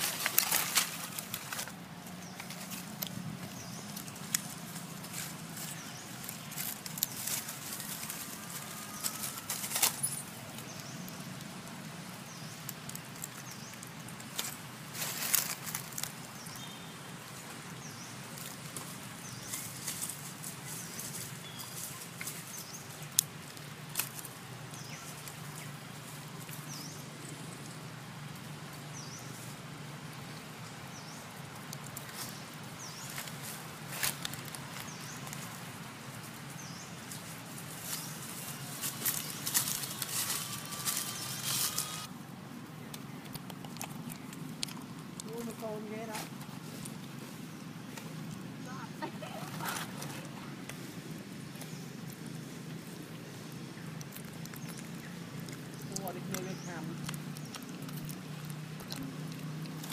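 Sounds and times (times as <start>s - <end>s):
dry leaves crackling and rustling: 0.0s - 59.9s.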